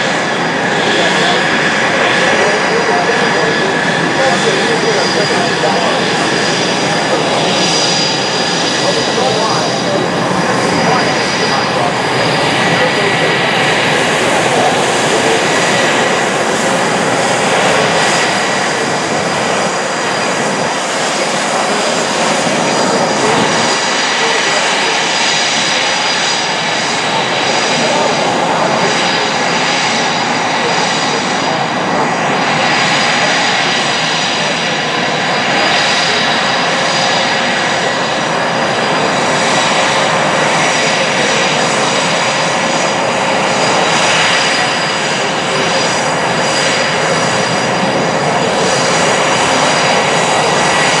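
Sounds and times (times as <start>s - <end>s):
high jet whine: 0.0s - 51.0s
jet engine exhaust rush: 0.0s - 51.0s.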